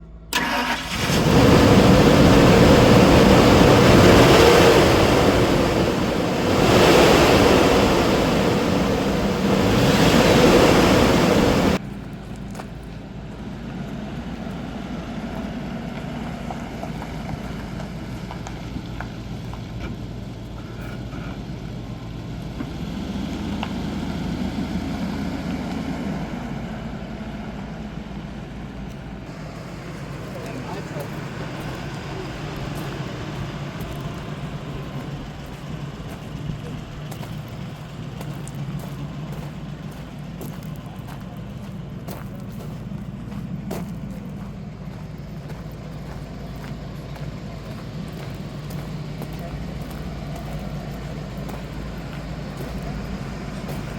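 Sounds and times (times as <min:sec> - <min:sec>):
steady engine hum: 0:00.0 - 0:53.9
truck engine running: 0:00.0 - 0:53.9.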